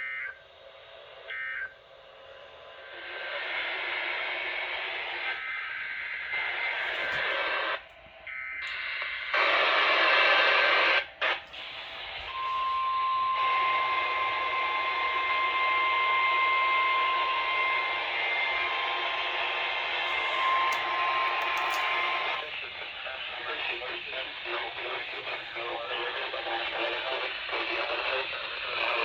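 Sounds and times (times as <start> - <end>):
steady radio tone: 0.0 - 29.0
radio static: 2.6 - 7.9, 8.5 - 29.0.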